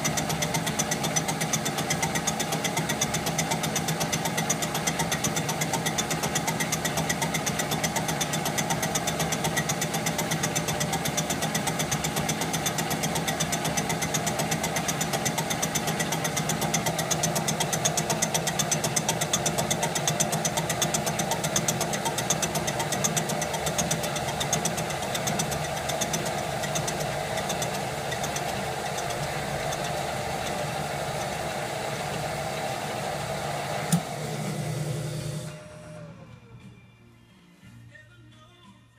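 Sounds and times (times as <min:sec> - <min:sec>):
lathe running with rattle: 0:00.0 - 0:35.6.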